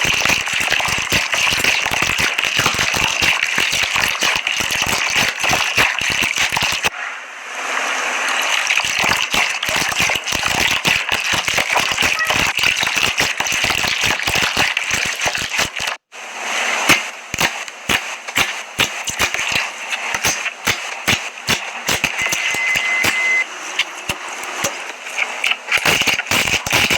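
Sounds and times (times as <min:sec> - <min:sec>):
slime squishing crackles and pops: 0:00.0 - 0:06.9, 0:08.7 - 0:16.0, 0:16.9 - 0:23.2, 0:25.4 - 0:26.9.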